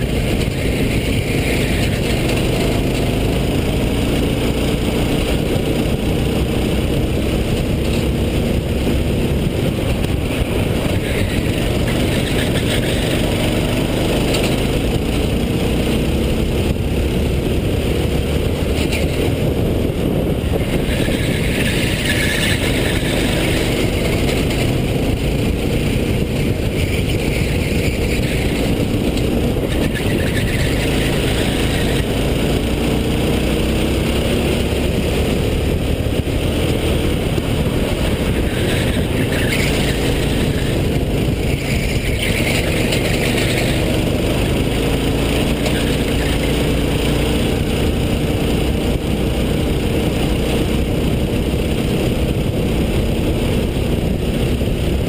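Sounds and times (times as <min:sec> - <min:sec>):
racing kart engine: 0:00.0 - 0:55.0
steady rush of noise: 0:00.0 - 0:55.0.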